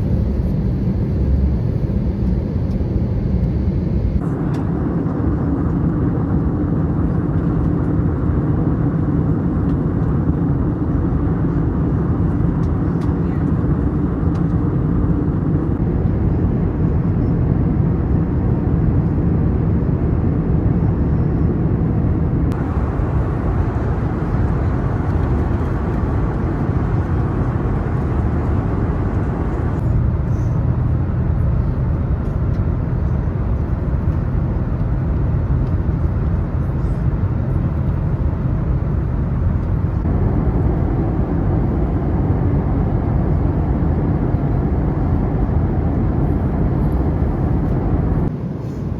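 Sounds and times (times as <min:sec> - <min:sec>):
engine and airflow roar in cabin: 0:00.0 - 0:48.9.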